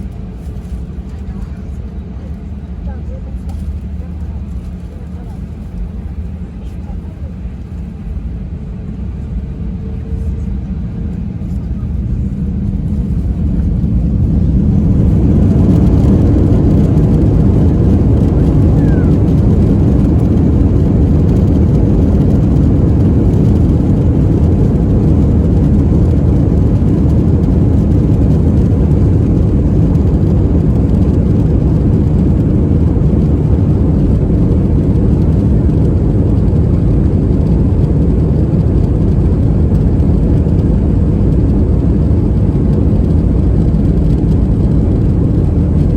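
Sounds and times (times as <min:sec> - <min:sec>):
jet engines rumbling in cabin: 0:00.0 - 0:45.9.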